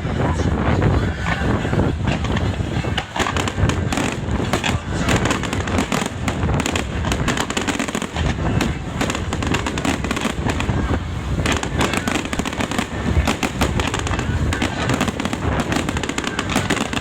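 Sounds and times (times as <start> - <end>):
fireworks bangs and pops: 0.0 - 17.0
fireworks crackle and rumble: 0.0 - 17.0.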